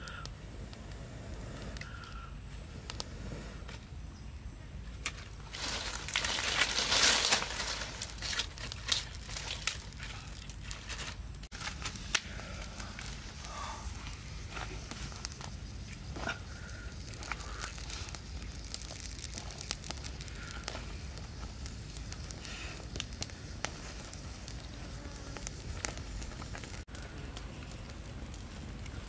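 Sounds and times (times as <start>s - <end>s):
campfire crackling: 0.0s - 29.0s
sticks rustling and snapping: 5.0s - 29.0s.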